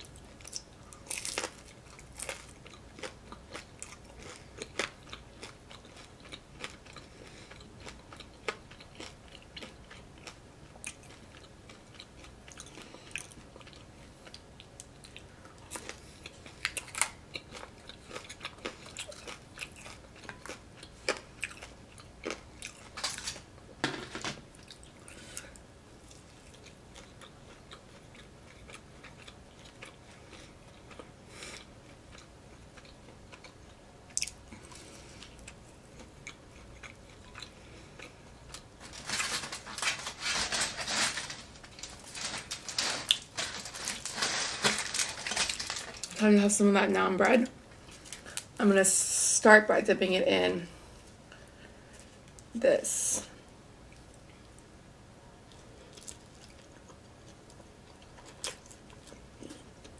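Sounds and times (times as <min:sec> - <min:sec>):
chewing and crunching: 0:00.0 - 0:23.7, 0:24.5 - 0:46.2, 0:55.4 - 0:59.9.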